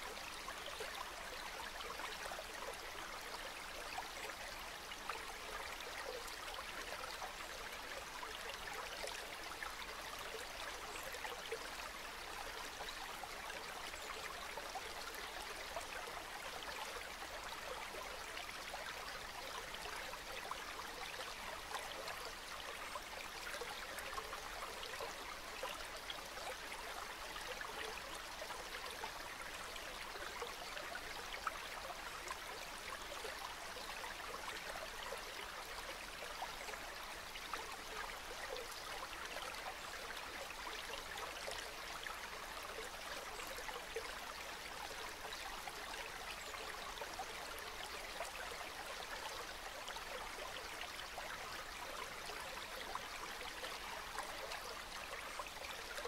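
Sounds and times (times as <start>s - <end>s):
river water trickling: 0.0s - 56.0s.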